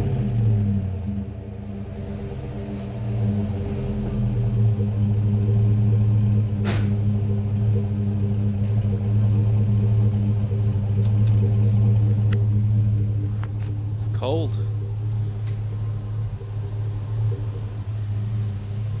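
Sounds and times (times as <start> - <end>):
engine exhaust low note: 0.0 - 19.0.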